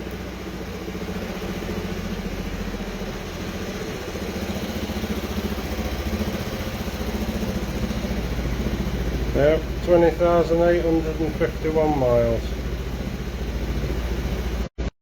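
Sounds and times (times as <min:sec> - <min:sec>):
scooter engine idling: 0:00.0 - 0:14.8.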